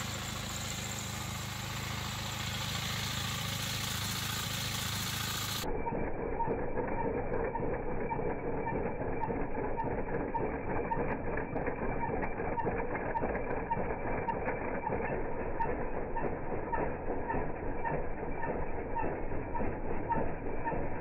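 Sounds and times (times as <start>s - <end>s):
petrol engine running: 0.0s - 21.0s.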